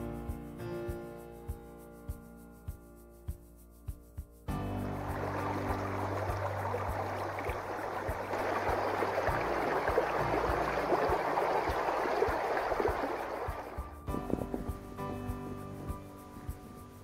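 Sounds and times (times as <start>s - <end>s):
music with low beat: 0.0s - 17.0s.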